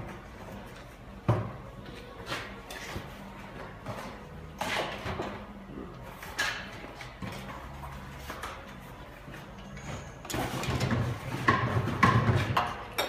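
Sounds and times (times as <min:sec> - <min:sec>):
knocks and clatters of hand work: 0:00.0 - 0:13.0.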